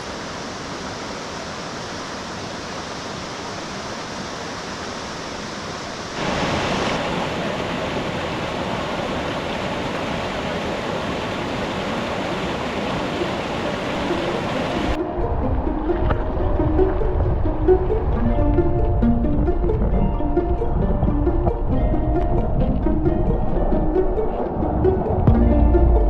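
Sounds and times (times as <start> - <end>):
mountain river rushing: 0.0 - 26.0.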